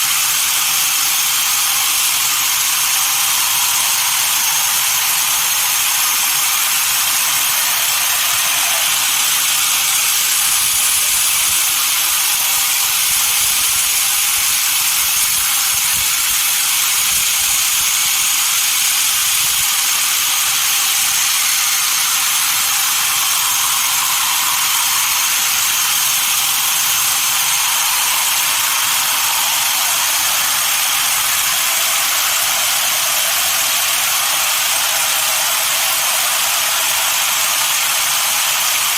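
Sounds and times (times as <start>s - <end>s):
sawmill saw hissing: 0.0s - 38.9s.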